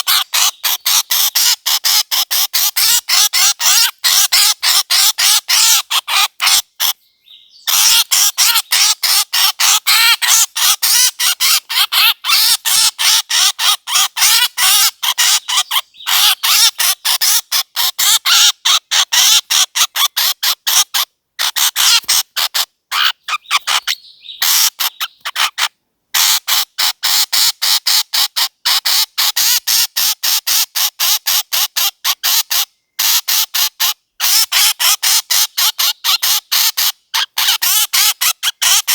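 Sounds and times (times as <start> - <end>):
bird squawking calls: 0.0 - 38.9.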